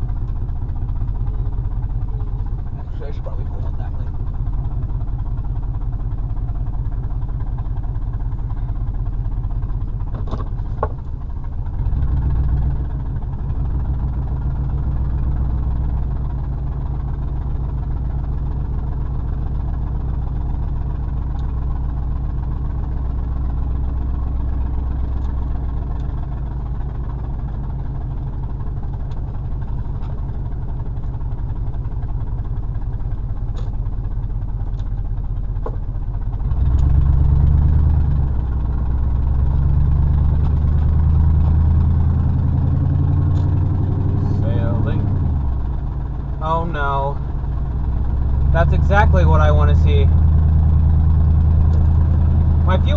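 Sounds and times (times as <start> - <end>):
truck engine hum: 0.0 - 52.9.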